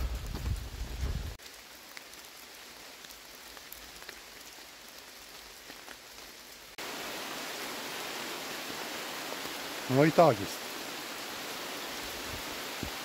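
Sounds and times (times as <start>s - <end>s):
raindrops ticking close by: 0.0s - 13.0s
steady rain: 0.0s - 13.0s.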